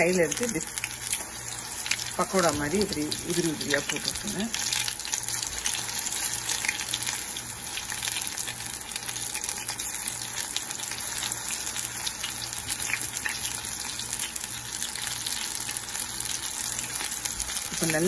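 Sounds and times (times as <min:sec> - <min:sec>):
batter deep-frying in oil: 0:00.0 - 0:18.0.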